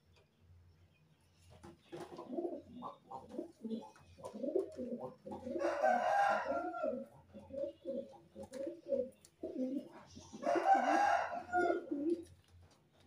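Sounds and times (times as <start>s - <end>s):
pigeons cooing: 1.9s - 12.4s.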